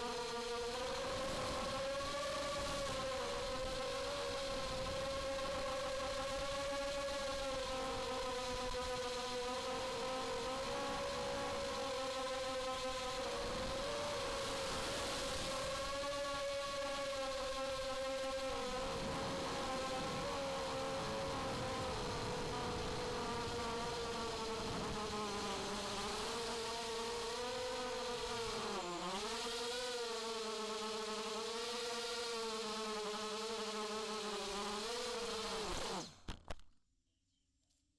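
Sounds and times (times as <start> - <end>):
quadcopter motors buzzing whine: 0.0 - 36.4.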